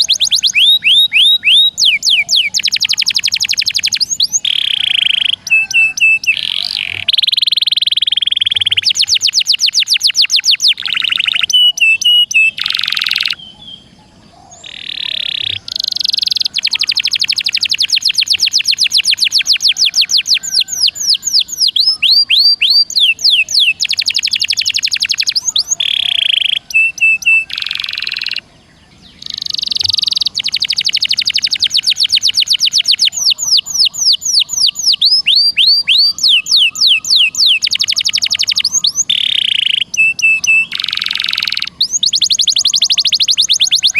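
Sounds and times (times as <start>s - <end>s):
buzzy bird phrases: 0.0s - 43.9s
songbird trills and chirps: 0.0s - 43.9s.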